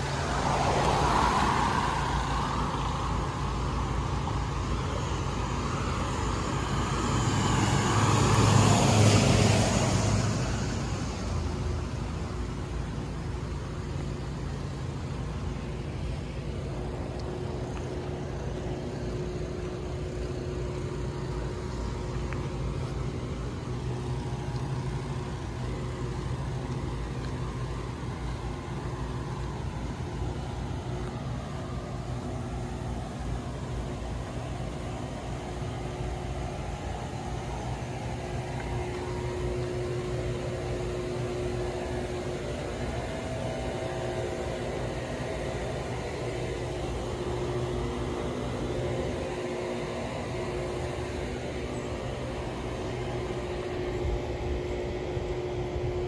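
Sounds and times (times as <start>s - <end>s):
faint hums: 0.0s - 56.0s
low outdoor rumble: 0.0s - 56.0s.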